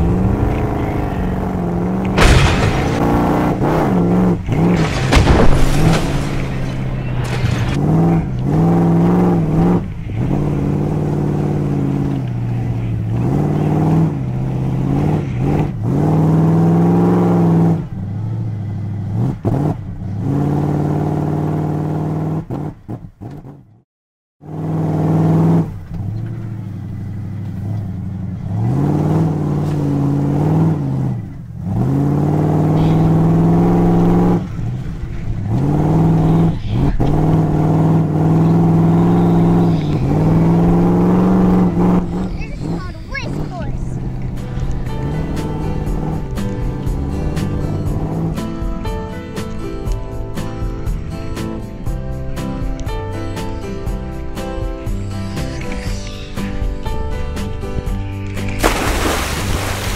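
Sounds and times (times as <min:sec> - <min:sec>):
engine revving: 0:00.0 - 0:23.8, 0:24.4 - 0:49.9.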